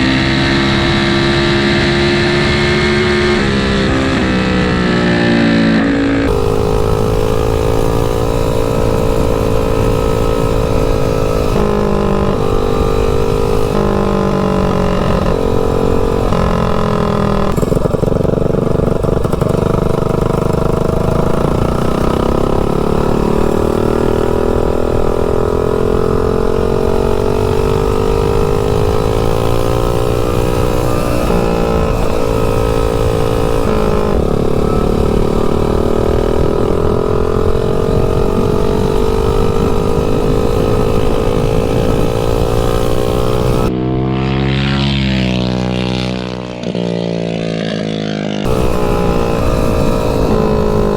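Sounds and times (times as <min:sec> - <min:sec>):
mini bike engine revving: 0:00.0 - 0:50.9.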